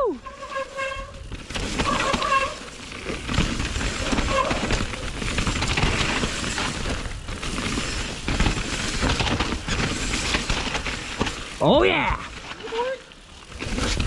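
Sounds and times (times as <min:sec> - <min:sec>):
bike chain and frame clattering: 0:00.0 - 0:14.0.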